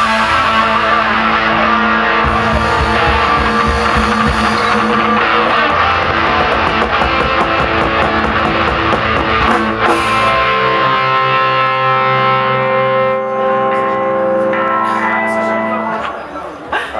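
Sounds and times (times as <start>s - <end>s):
drums: 0.0s - 15.0s
rock band playing: 0.0s - 16.3s
distorted electric guitars: 0.0s - 16.8s.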